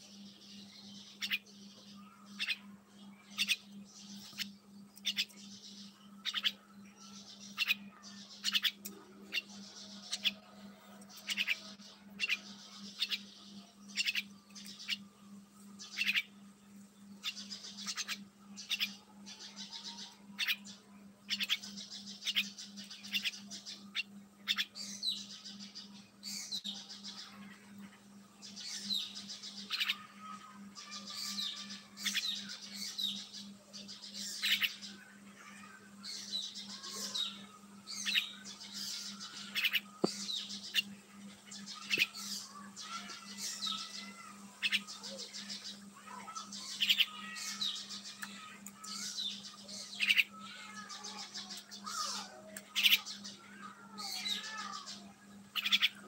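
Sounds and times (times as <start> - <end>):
caged birds chirping: 0.0 - 56.0.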